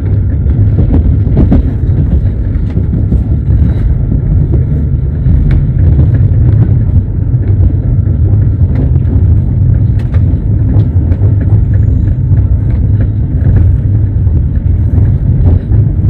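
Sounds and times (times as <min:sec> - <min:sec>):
sharp clicks and knocks from wheels: 0:00.0 - 0:16.0
train wheels rumbling on rails: 0:00.0 - 0:16.0.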